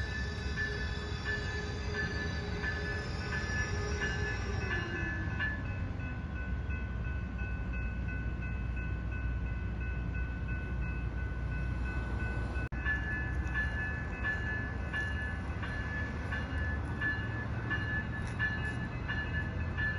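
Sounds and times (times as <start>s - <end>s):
train rumbling past: 0.0s - 19.9s.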